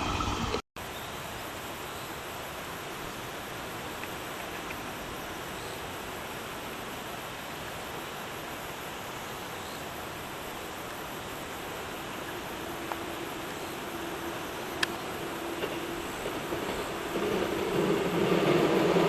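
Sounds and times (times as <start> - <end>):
outdoor background hiss: 0.8 - 19.0.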